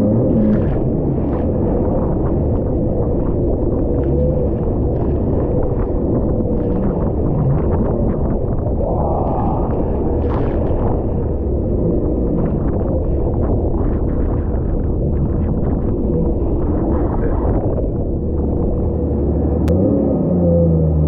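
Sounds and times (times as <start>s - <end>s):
water splashing against hull: 0.0s - 19.7s
wind buffeting microphone: 0.0s - 19.8s
jet ski engine running: 0.0s - 21.0s.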